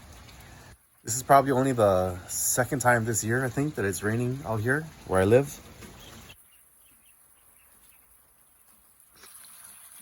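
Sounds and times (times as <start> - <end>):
faint steady rain: 0.0 - 10.0.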